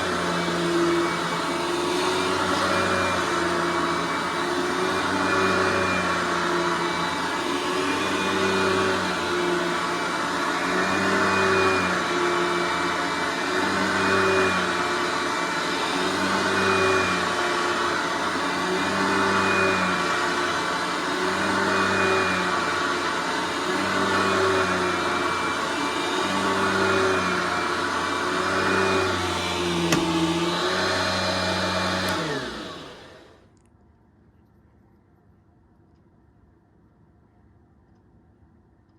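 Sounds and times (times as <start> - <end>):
vacuum cleaner running: 0.0 - 33.5.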